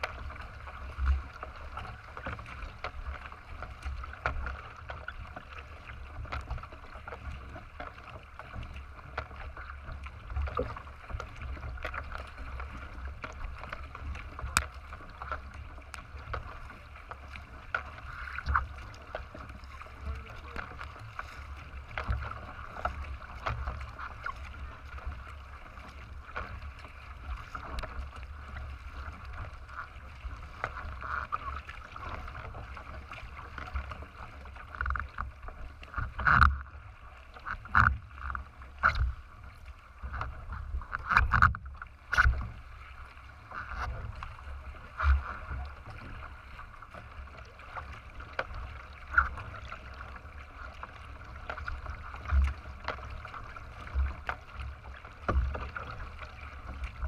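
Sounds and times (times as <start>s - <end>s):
water splashing along kayak hull: 0.0s - 57.0s.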